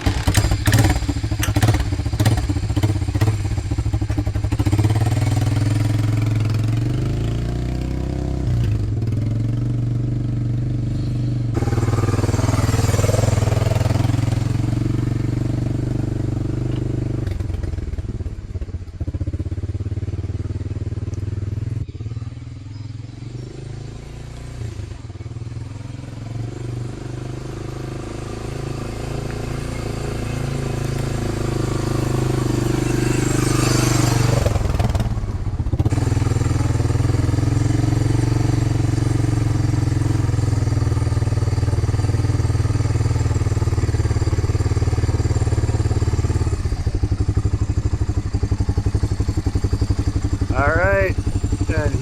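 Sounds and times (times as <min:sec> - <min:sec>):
small vehicle engine running: 0:00.0 - 0:52.0.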